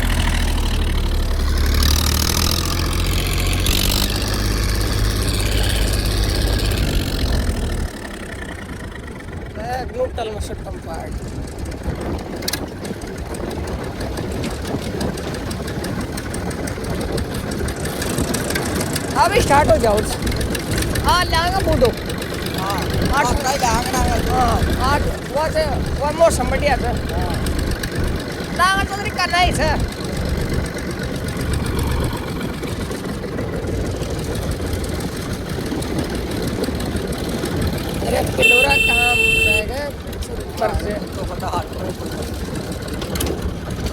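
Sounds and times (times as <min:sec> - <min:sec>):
tractor diesel engine idling: 0:00.0 - 0:43.9.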